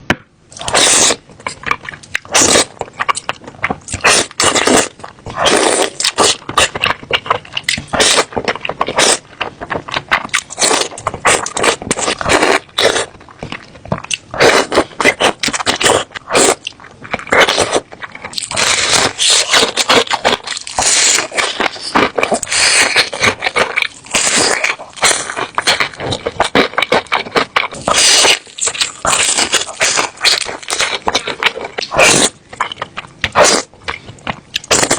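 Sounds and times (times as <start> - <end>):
chewing and slurping: 0.6 - 34.9.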